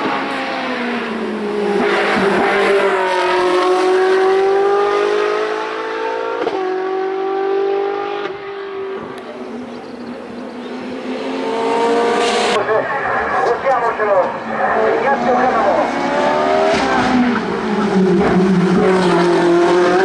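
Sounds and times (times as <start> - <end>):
racing engine at high revs: 0.0 - 20.0.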